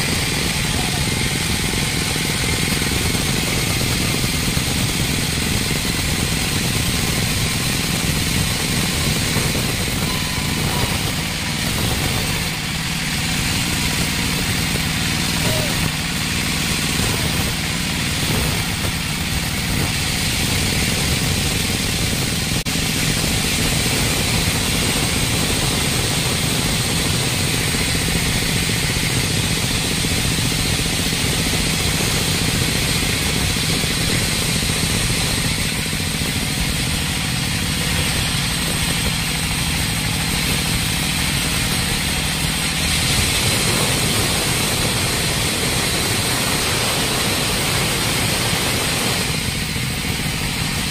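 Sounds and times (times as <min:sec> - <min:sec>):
band saw cutting through log: 0:00.0 - 0:50.9.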